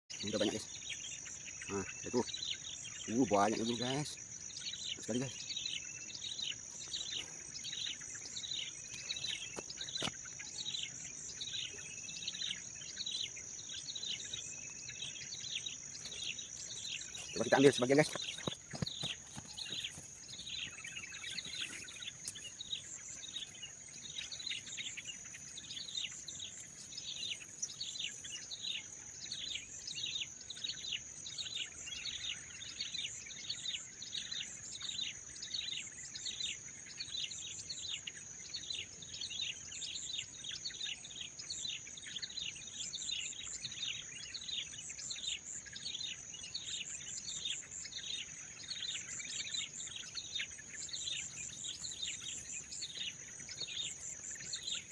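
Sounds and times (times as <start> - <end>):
small birds chirping: 0.0 - 54.9
high insect trill: 0.1 - 54.9.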